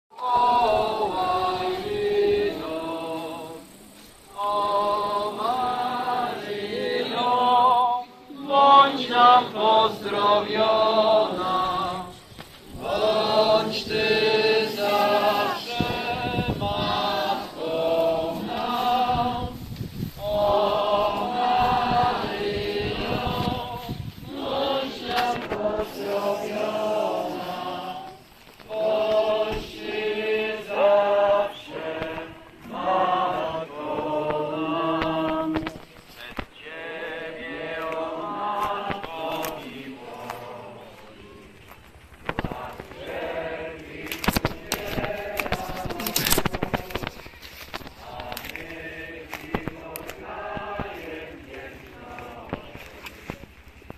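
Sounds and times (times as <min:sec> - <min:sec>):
congregation singing a hymn: 0:00.1 - 0:53.9.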